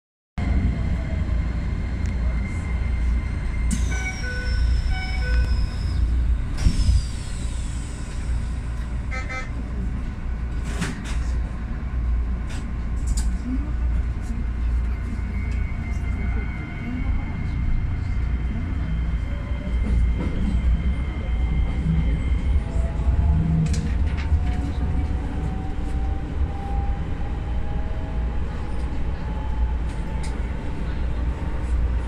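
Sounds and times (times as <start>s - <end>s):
train low hum: 0.4s - 32.0s.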